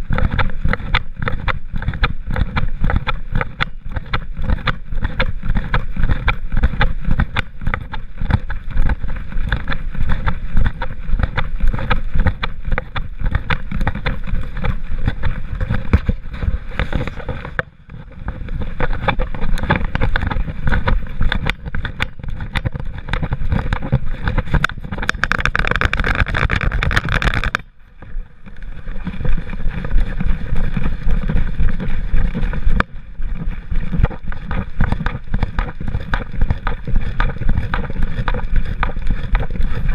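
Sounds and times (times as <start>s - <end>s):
small clicks: 0.1s - 32.9s.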